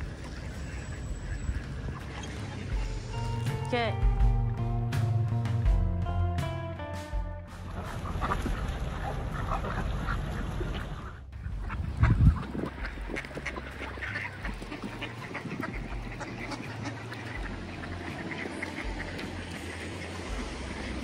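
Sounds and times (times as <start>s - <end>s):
ducks quacking: 0.0s - 3.5s, 7.6s - 21.0s.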